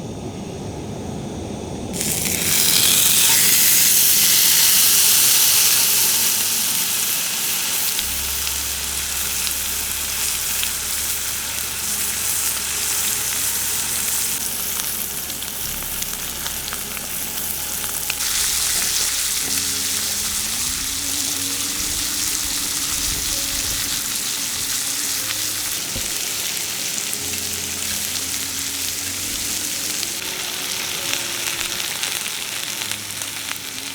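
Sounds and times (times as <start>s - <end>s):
fire hissing: 1.8s - 33.9s
campfire crackling: 2.0s - 33.9s.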